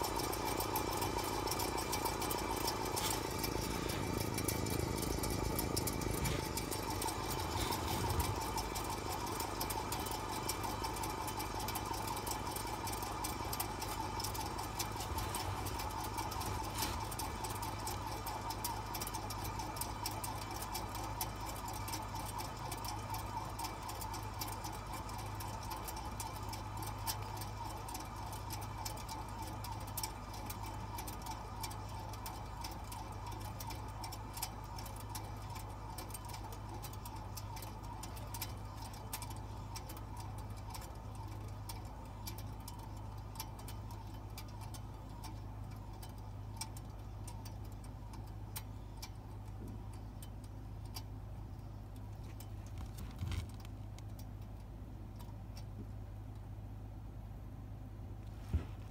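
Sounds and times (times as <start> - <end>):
small irregular clicks: 0.0 - 56.7.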